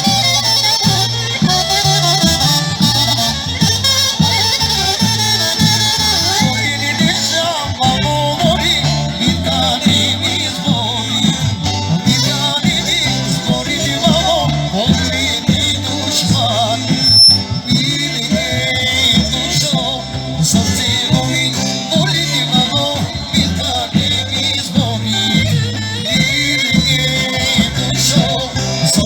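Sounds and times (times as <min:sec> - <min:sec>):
folk dance music by band: 0:00.0 - 0:29.0
singing: 0:00.0 - 0:29.0.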